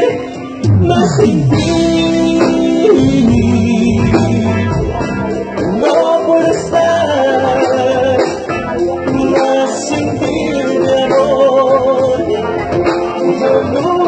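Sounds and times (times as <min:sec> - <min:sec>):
drum kit: 0:00.0 - 0:14.0
electric guitar: 0:00.0 - 0:14.0
person singing long notes: 0:00.0 - 0:14.0.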